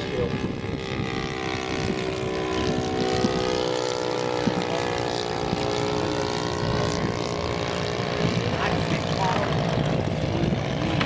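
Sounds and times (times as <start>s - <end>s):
model plane radial engine: 0.0s - 11.0s.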